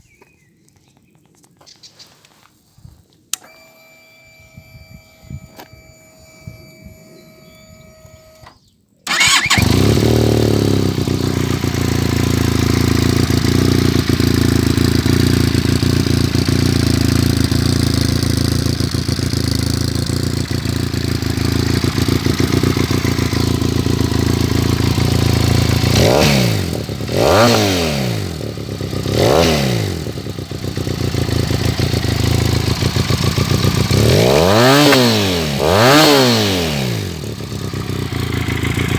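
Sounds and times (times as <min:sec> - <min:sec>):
motorcycle engine idling and revving: 0:04.6 - 0:38.9.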